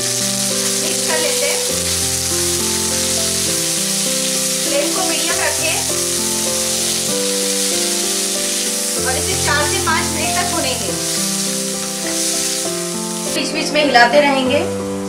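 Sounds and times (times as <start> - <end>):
peas sizzling in hot oil: 0.0 - 15.0
slow held-note music: 0.0 - 15.0.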